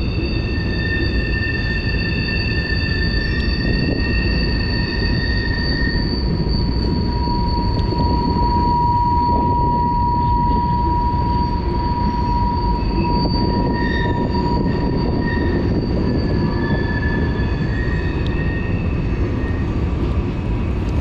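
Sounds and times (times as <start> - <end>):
shifting whistling tones: 0.0 - 20.2
high-pitched whine: 0.0 - 21.0.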